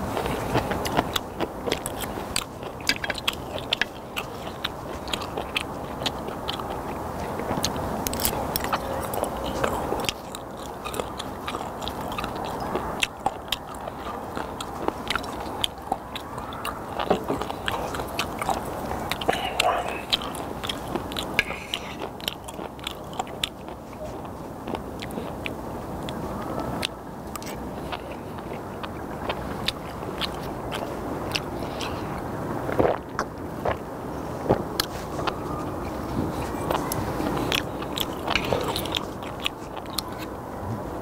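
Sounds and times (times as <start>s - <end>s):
chewing and crunching: 0.0s - 41.0s
mouth clicks and smacks: 0.1s - 33.8s, 34.4s - 40.3s.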